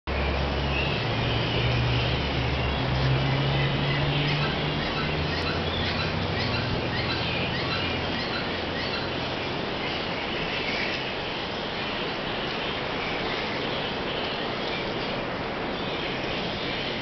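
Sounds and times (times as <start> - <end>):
birds chirping: 0.1 - 17.0
outdoor noise haze: 0.1 - 17.0.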